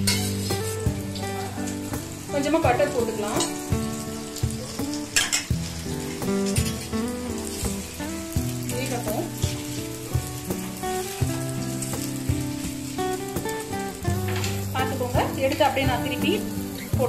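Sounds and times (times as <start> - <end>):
bread frying in butter sizzling: 0.0 - 17.0
soft background music: 0.0 - 17.0.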